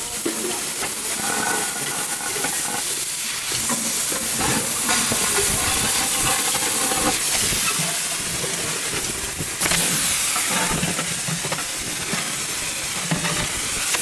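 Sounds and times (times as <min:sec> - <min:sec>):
loud hissing of cutting steel: 0:00.0 - 0:14.0.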